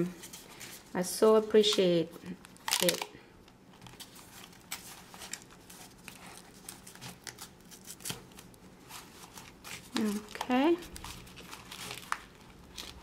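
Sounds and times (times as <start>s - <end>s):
paper and foil crinkling: 0.1s - 3.1s, 3.7s - 13.0s.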